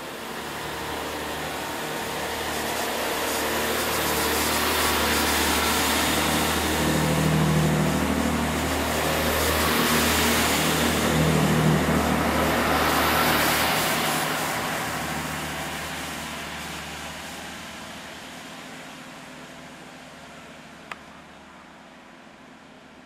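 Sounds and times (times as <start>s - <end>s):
wheel and rail noise: 0.0s - 23.0s.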